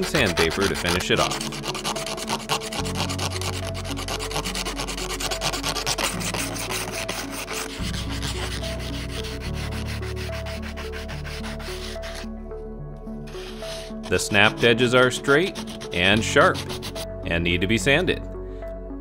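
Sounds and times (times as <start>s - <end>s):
sandpaper rubbing acrylic edge: 0.0s - 12.3s, 13.3s - 17.0s.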